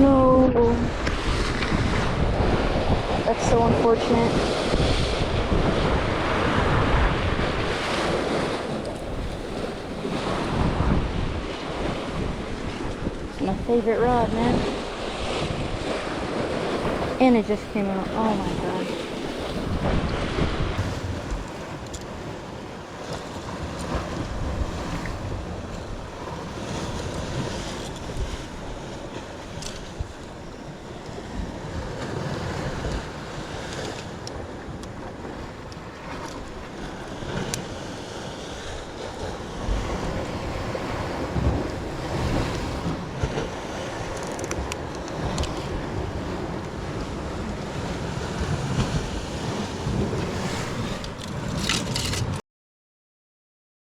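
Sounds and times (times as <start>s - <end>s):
sea waves: 0.0s - 52.4s
wind buffeting microphone: 0.0s - 52.4s.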